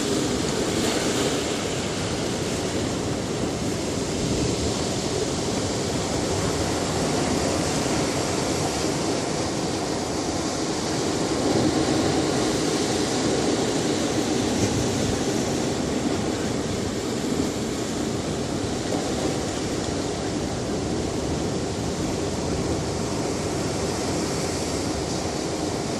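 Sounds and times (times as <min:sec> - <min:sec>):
ocean waves washing on beach: 0:00.0 - 0:25.9.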